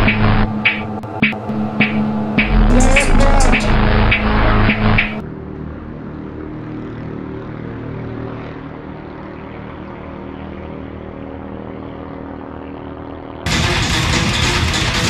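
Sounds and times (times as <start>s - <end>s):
droning hum of low tones: 0.0s - 14.8s.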